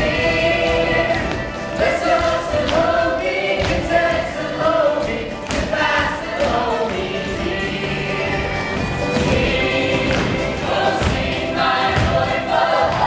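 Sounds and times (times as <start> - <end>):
chorus singing: 0.0 - 13.0
musical accompaniment: 0.0 - 13.0.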